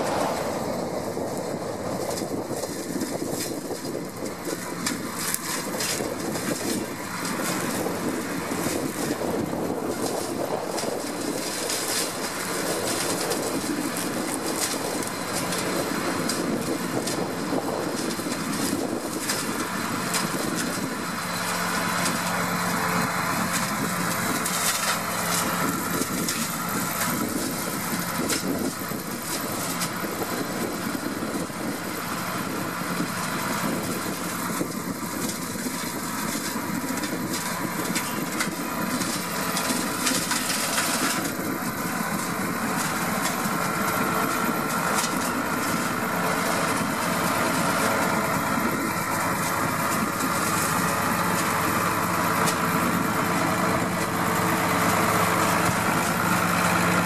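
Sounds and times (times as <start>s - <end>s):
hedge cutter chopping branches: 0.0s - 31.8s, 33.0s - 57.0s
tractor diesel engine running: 0.0s - 57.0s.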